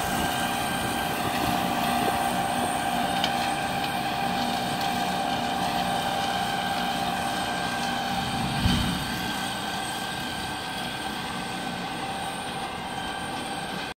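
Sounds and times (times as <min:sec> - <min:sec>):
tractor mulcher droning and whining: 0:00.0 - 0:14.0.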